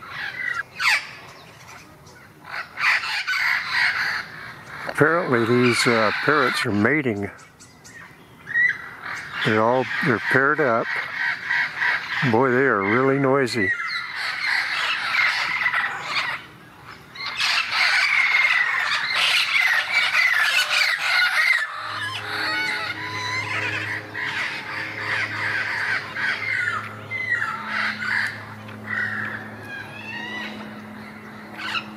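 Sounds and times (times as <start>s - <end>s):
parrots squawking and screeching: 0.0s - 7.4s, 8.0s - 31.9s
low steady hum: 0.0s - 31.9s.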